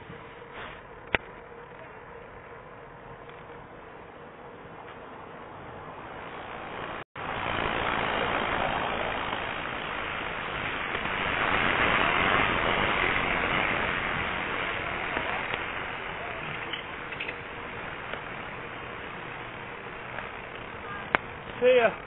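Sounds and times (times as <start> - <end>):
road noise while cycling: 0.0 - 22.0
rushing wind: 0.0 - 22.0.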